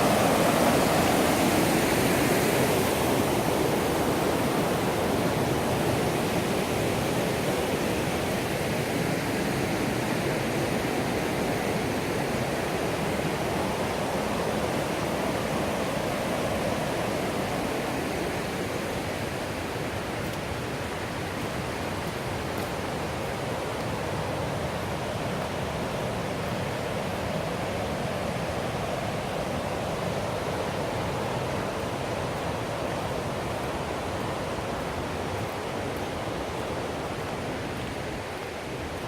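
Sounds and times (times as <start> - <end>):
rushing white water: 0.0 - 39.0.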